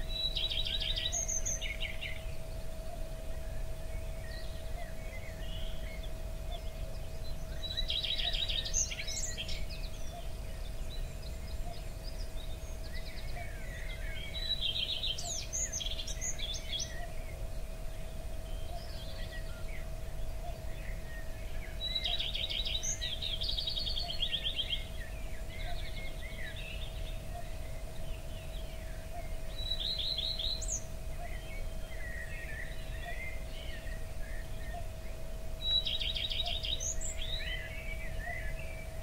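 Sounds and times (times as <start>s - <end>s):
birds chirping: 0.0s - 39.0s
fast trilled bird song: 0.0s - 39.0s.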